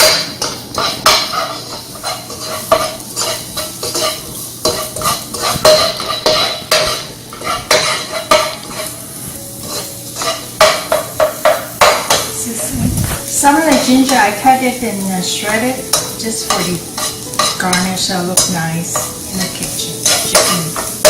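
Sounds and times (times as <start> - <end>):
utensil clinking against pan: 0.0 - 8.9, 9.6 - 12.4, 15.5 - 21.0
garlic and ginger sizzling: 0.0 - 21.0.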